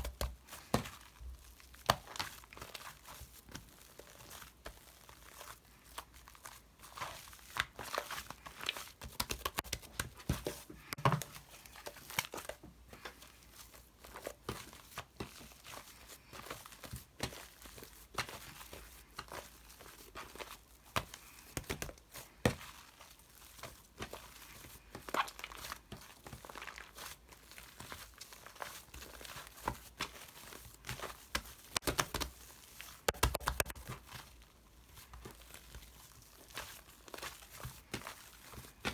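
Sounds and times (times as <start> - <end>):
crinkling and crackling: 0.0 - 38.9.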